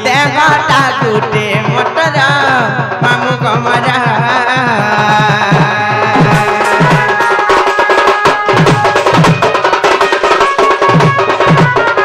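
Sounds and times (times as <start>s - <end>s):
hand-beaten drum rhythm: 0.0s - 12.0s
held melody line: 0.0s - 12.0s.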